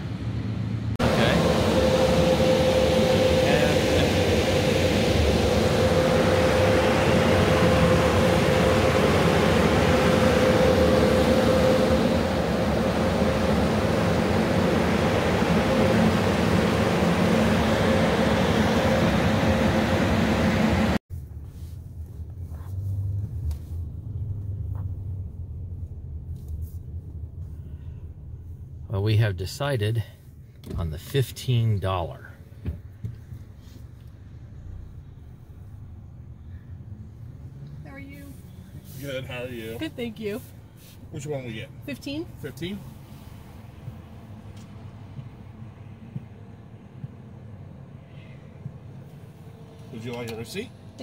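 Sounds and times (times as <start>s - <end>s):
car wash machinery whooshing: 0.0s - 29.2s, 32.4s - 51.0s
car cabin low hum: 0.0s - 51.0s.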